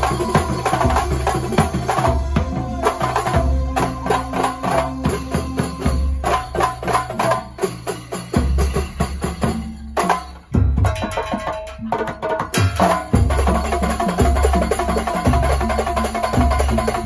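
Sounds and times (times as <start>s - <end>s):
fast percussion ensemble drumming: 0.0s - 17.0s.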